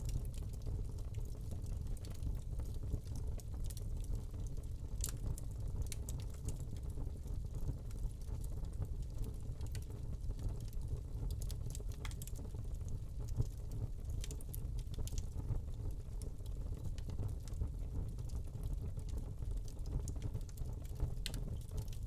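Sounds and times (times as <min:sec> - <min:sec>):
fire crackles and pops: 0:00.0 - 0:22.0
low rumble of flames: 0:00.0 - 0:22.0.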